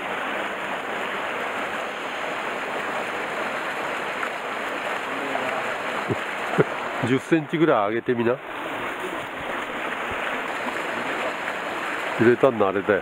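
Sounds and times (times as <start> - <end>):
stream water pouring over rocks: 0.0 - 13.0.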